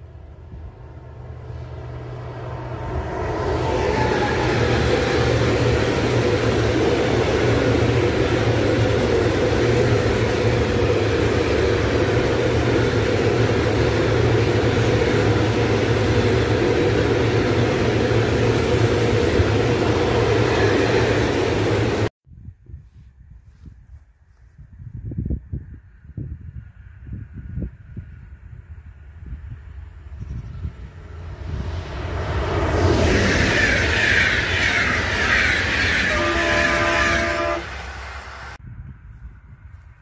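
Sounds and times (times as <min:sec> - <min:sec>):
train wheels rumbling on rails: 0:00.0 - 0:22.1, 0:27.1 - 0:39.9.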